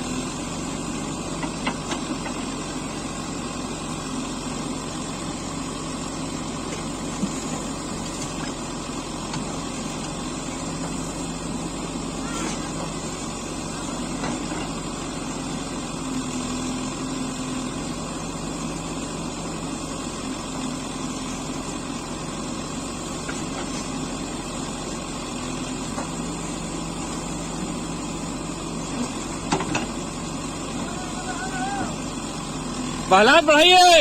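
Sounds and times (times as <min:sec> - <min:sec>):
diesel engines running: 0:00.0 - 0:34.0.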